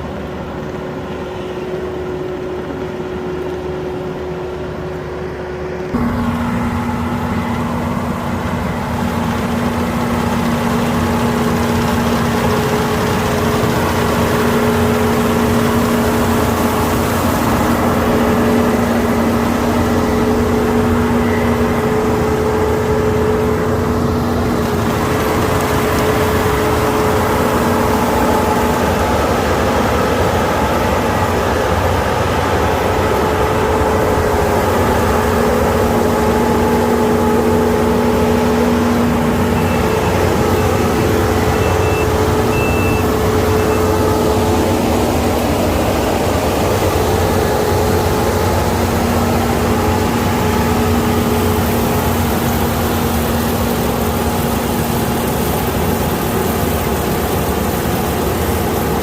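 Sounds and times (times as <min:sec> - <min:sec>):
combine harvester engine drone: 0:00.0 - 0:59.0
steady whine: 0:00.0 - 0:59.0.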